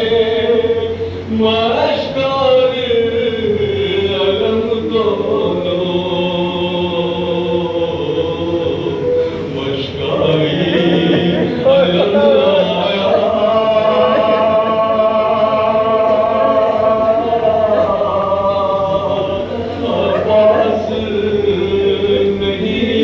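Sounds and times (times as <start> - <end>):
man chanting into a microphone: 0.0 - 23.0.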